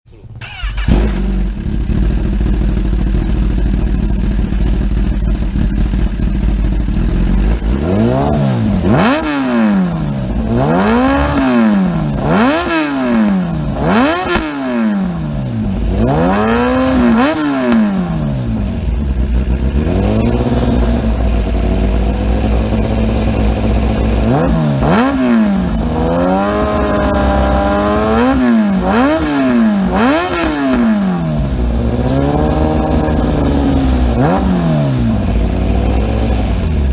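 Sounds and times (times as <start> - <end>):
motorcycle engine idling and revving: 0.1 - 36.9.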